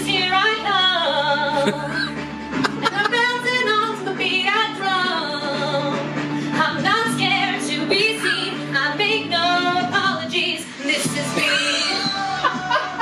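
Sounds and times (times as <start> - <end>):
woman singing a power ballad: 0.0 - 1.7, 2.9 - 13.0
backing track: 0.6 - 13.0.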